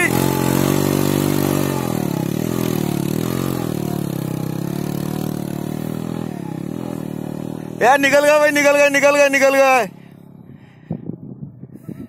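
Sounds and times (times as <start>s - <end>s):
small motorcycle engine revving: 0.0s - 10.8s.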